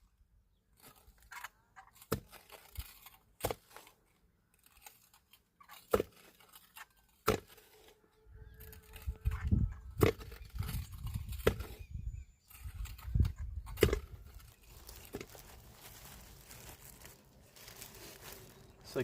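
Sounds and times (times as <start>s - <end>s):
crunching and crackling: 0.8s - 11.8s, 12.5s - 19.0s.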